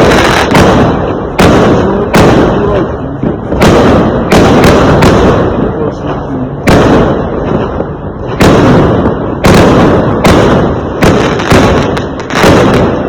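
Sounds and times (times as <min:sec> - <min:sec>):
fireworks bangs rumbling: 0:00.0 - 0:13.0.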